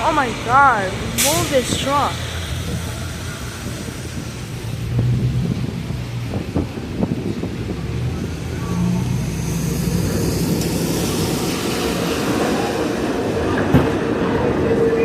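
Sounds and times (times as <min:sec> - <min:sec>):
heavy vehicle engine running: 0:00.0 - 0:15.0
steady train whine: 0:00.0 - 0:15.0
subway train rumble and hiss: 0:00.0 - 0:15.0.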